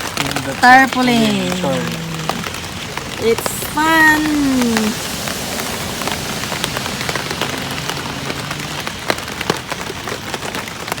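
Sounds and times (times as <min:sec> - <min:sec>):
hard rain on a tarpaulin: 0:00.0 - 0:11.0
sharp raindrop hits: 0:00.0 - 0:11.0.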